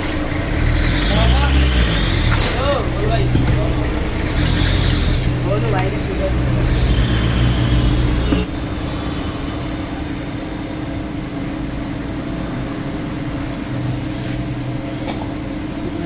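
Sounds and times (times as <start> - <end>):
mechanical engine hum: 0.0 - 16.0.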